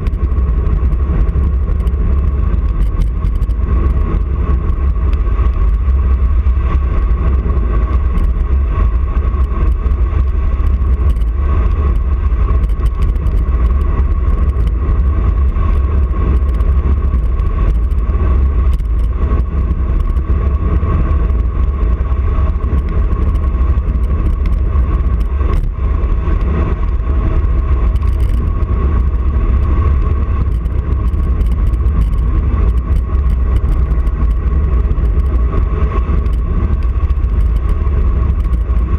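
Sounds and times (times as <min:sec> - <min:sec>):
tyre noise on tarmac: 0:00.0 - 0:38.9
wind buffeting microphone: 0:00.0 - 0:38.9.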